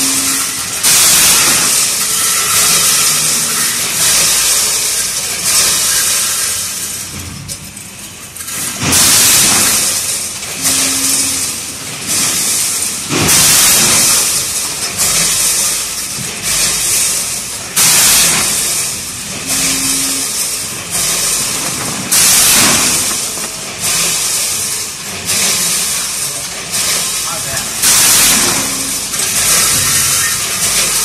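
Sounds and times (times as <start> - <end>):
machine rattling metal springs: 0.0 - 31.0
metallic clatter surges: 0.0 - 31.0.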